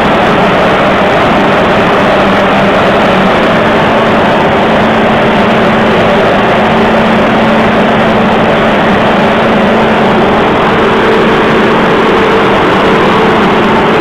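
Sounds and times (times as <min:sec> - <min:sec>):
dense rushing noise: 0:00.0 - 0:14.0
higher steady tone: 0:00.0 - 0:14.0
loud machine hum: 0:00.0 - 0:14.0.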